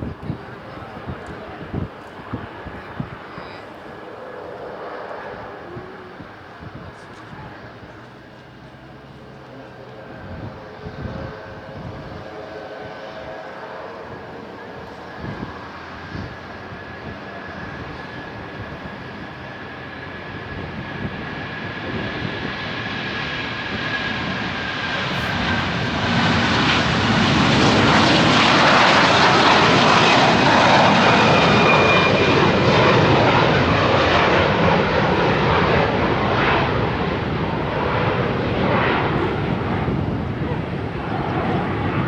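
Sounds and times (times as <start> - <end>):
airliner engine noise: 0.0 - 42.0.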